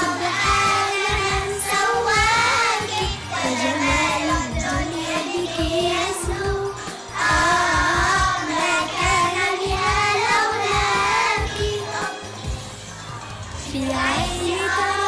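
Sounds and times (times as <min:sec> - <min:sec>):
backing track with steady beat: 0:00.0 - 0:15.0
children singing together: 0:00.0 - 0:15.0.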